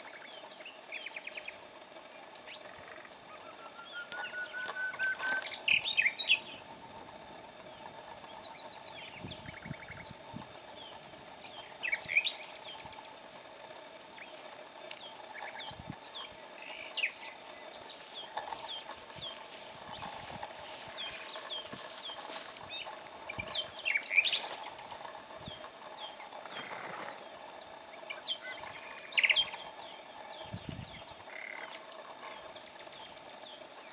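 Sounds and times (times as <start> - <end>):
wild birds singing: 0.0 - 33.9.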